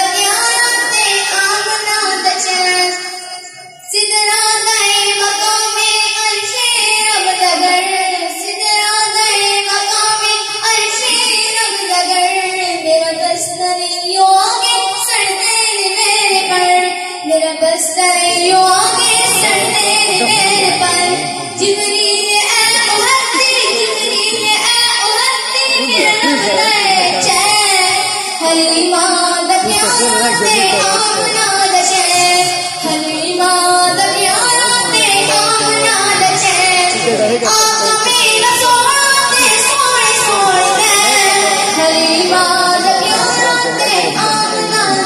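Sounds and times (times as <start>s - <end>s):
boy singing into loudspeaker: 0.0s - 45.0s.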